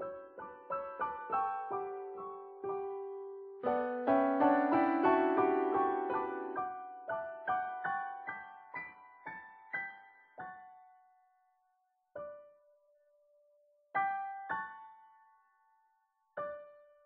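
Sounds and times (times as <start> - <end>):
slow solo piano: 0.0 - 17.0.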